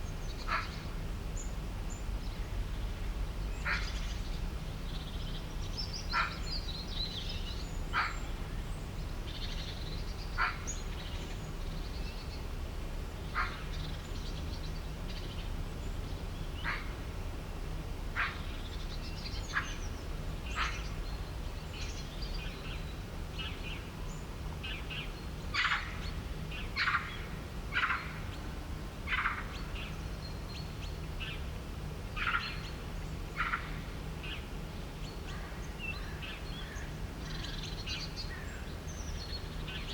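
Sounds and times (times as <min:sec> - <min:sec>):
birds chirping and twittering: 0:00.0 - 0:17.3, 0:18.2 - 0:28.5, 0:29.1 - 0:39.9.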